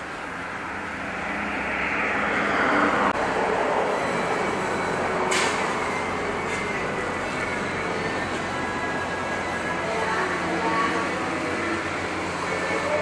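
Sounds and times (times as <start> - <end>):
road vehicle passing: 0.0 - 13.0.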